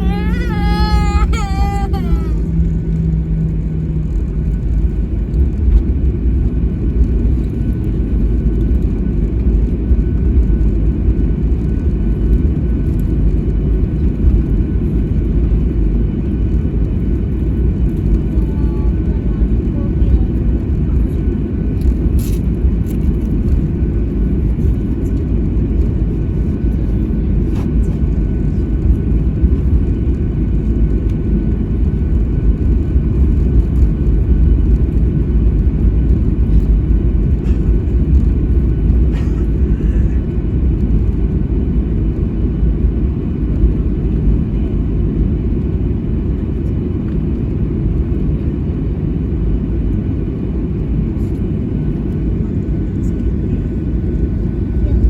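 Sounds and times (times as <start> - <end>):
airplane engines rumbling in cabin: 0.0 - 55.0.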